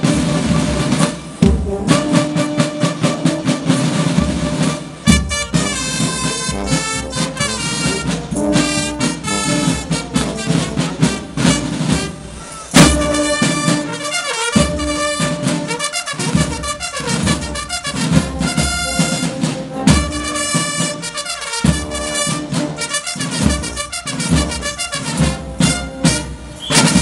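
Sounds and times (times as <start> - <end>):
brass band horns playing: 0.0 - 27.0
marching drums beating: 0.0 - 27.0.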